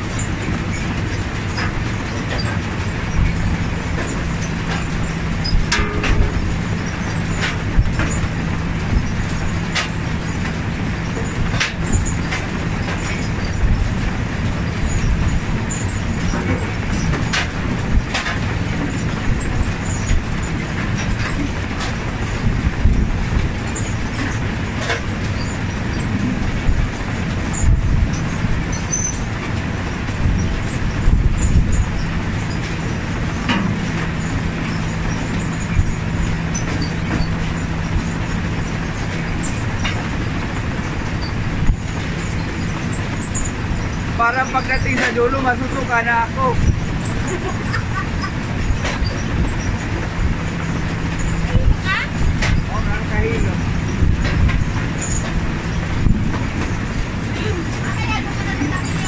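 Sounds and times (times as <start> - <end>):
harvester engine drone: 0.0 - 59.0.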